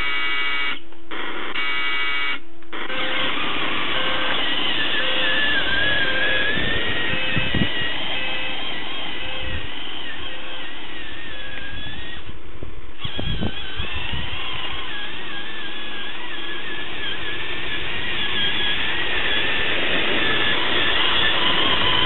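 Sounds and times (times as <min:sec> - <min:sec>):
toy bulldozer motor whining: 0:00.0 - 0:22.0.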